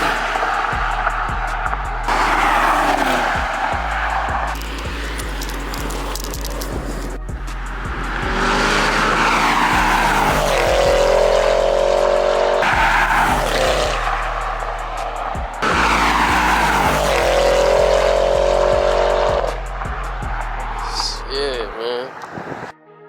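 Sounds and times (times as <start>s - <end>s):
background music with steady beat: 0.0s - 21.7s
car engine accelerating hard: 0.0s - 21.7s.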